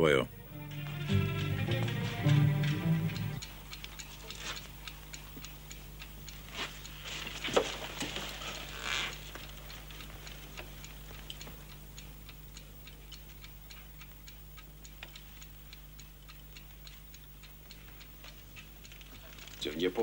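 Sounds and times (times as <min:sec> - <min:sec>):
pendulum clock ticking: 0:00.0 - 0:20.0.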